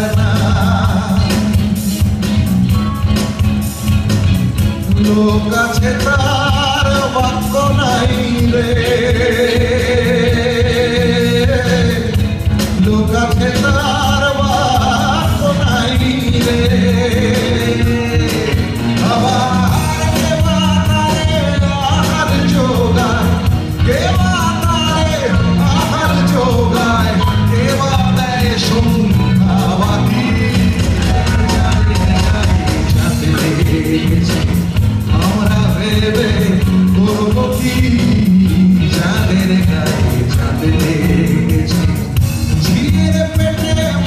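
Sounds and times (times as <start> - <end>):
man singing into a microphone: 0.0 - 1.8, 4.8 - 44.0
band playing a steady beat: 0.0 - 44.0.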